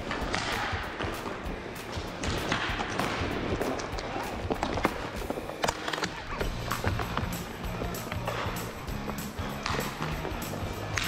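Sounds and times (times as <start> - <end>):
hockey sticks and puck clacking: 0.0 - 11.0
inline skate wheels rolling: 0.0 - 11.0.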